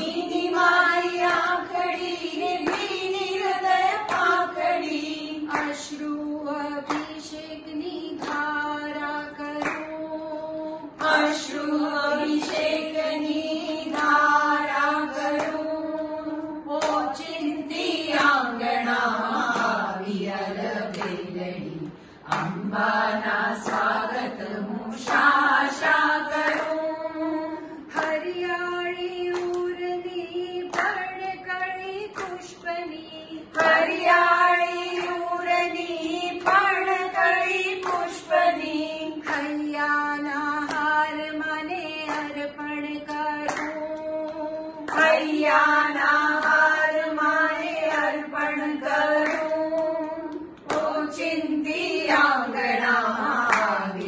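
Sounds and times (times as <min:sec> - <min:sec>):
hand claps: 0:00.0 - 0:10.2, 0:10.9 - 0:19.8, 0:20.9 - 0:32.8, 0:33.4 - 0:54.0
women singing together: 0:00.0 - 0:54.0.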